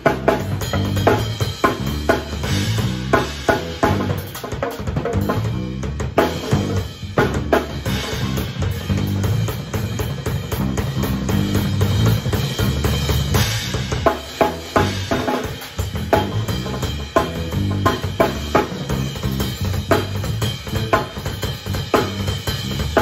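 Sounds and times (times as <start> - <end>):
bass drum and snare hits: 0.0 - 23.0
jazz-funk band playing: 0.0 - 23.0.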